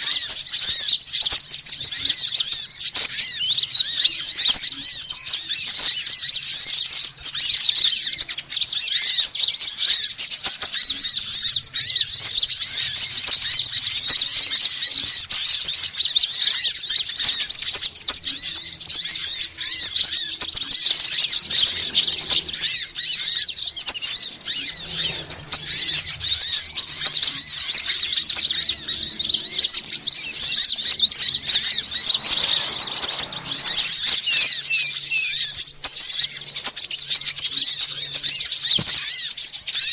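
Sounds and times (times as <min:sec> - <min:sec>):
flock of songbirds chattering: 0:00.0 - 0:39.9.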